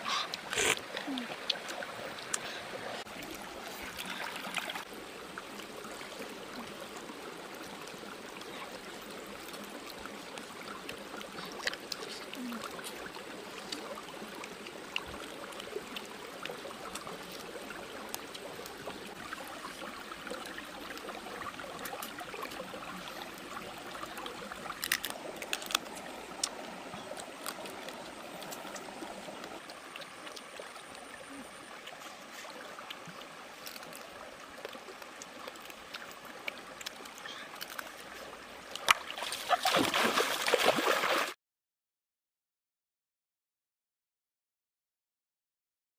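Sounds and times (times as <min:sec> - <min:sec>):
water running over rocks: 0:00.0 - 0:41.4.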